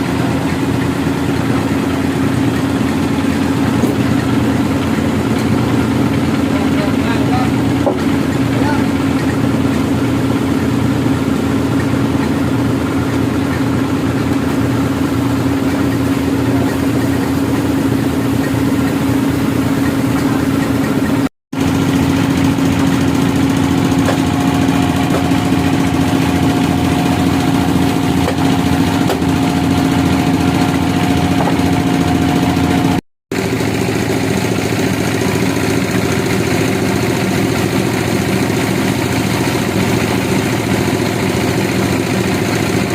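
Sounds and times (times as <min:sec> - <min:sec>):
sawmill engine droning: 0:00.0 - 0:42.9.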